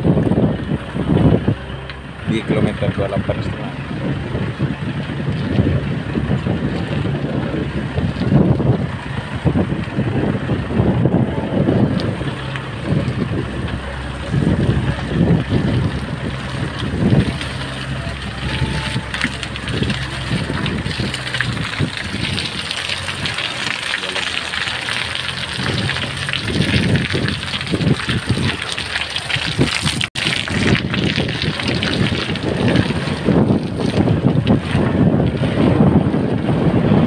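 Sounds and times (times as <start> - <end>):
tyres on rough ground: 0.0 - 36.0
vehicle engine running: 0.0 - 37.0
vehicle thumping over ruts: 0.0 - 37.0.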